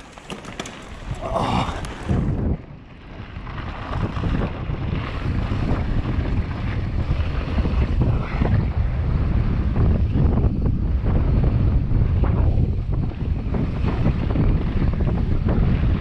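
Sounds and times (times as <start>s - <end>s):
wind buffeting microphone: 0.8s - 16.0s.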